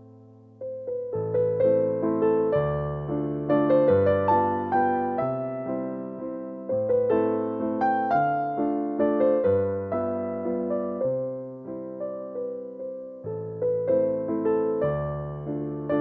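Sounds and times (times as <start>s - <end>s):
piano waltz: 0.0s - 16.0s.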